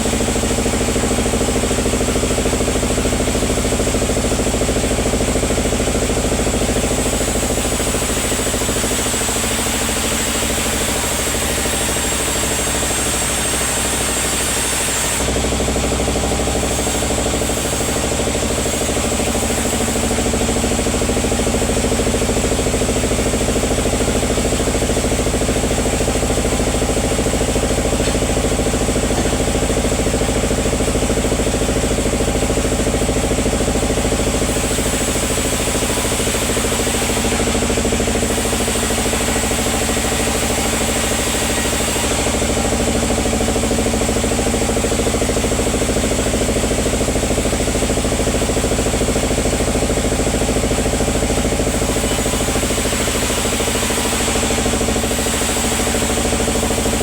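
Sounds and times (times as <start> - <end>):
sawmill machinery droning: 0.0 - 57.0.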